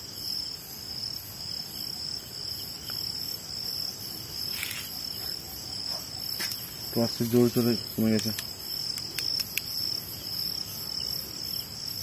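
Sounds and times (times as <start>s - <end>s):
crickets and night insects chirping: 0.0s - 12.0s.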